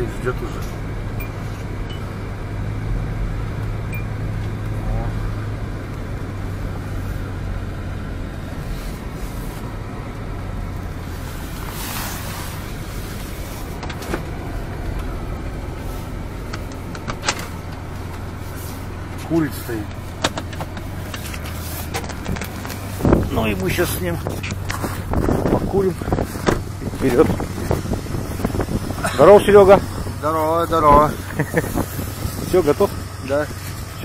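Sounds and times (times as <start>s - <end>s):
car engine running: 0.0s - 34.0s
tyre and road noise: 0.0s - 34.0s.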